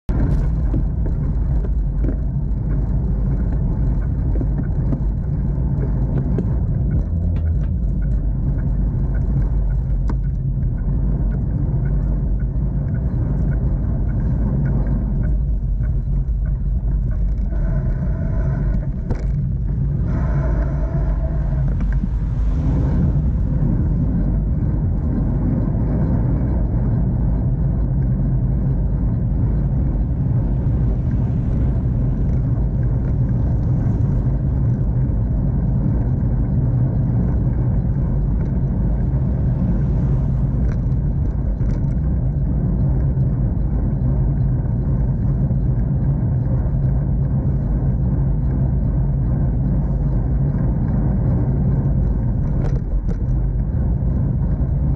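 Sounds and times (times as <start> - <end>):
road noise: 0.0 - 54.9
wind rumble on microphone: 0.0 - 54.9.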